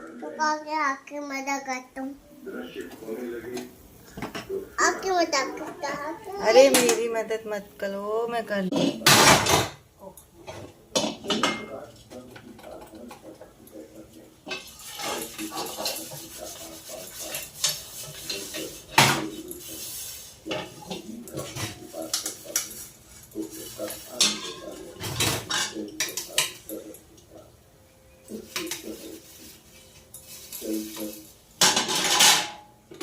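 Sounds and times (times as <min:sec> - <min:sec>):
kitchen utensils clattering: 0:02.9 - 0:07.4, 0:08.6 - 0:27.3, 0:28.2 - 0:33.0.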